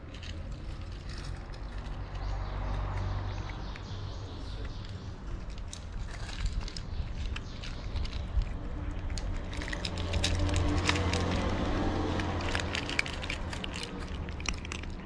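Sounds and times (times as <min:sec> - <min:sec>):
cat crunching dry kibble: 0:00.0 - 0:15.0.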